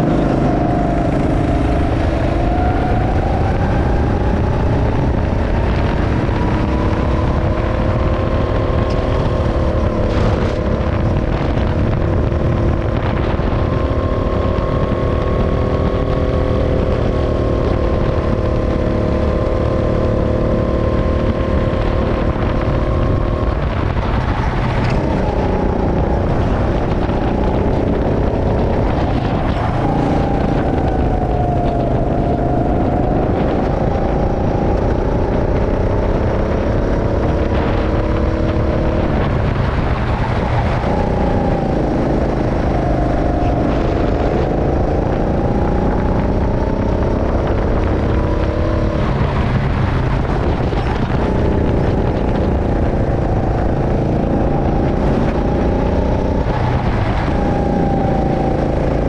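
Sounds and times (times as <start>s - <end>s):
go-kart engine running hard: 0.0s - 59.0s.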